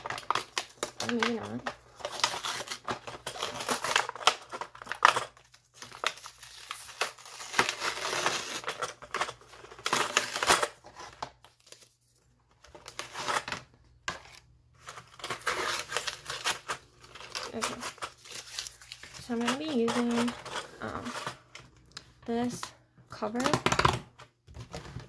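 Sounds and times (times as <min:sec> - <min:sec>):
plastic and card crinkling tearing: 0:00.0 - 0:25.0.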